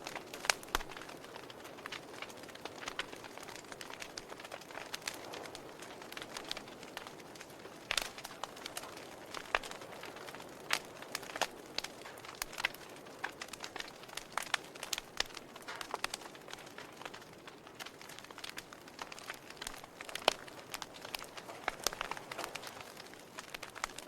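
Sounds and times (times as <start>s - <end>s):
soft steady hiss: 0.0s - 24.0s
wood fire crackling: 0.0s - 24.0s.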